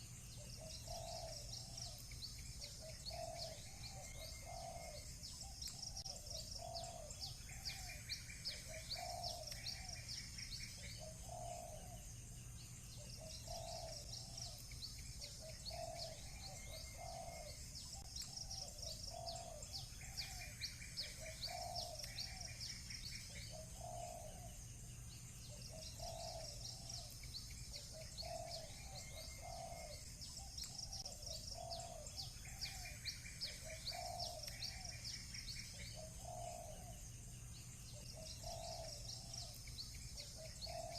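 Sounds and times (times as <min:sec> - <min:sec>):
buzzy bird trills: 0:00.0 - 0:24.6, 0:25.2 - 0:40.9
small birds chirping: 0:00.0 - 0:40.9
doves cooing: 0:00.3 - 0:12.1, 0:13.0 - 0:24.6, 0:25.5 - 0:37.1, 0:37.9 - 0:40.9.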